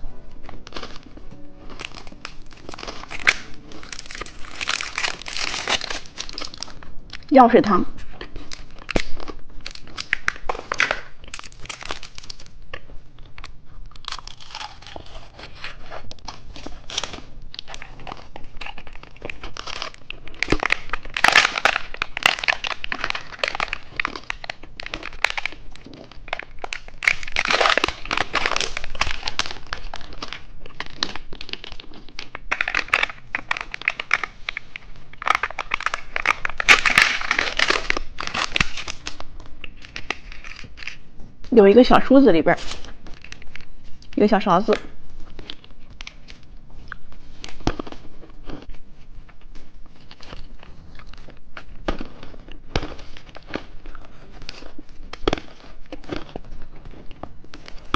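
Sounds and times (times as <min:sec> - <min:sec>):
plastic packaging crinkling: 0:00.0 - 0:57.9.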